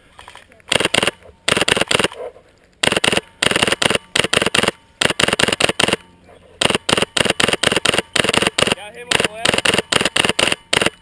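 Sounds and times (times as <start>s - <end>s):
airsoft rifle firing bursts: 0.7s - 2.2s, 2.8s - 11.0s.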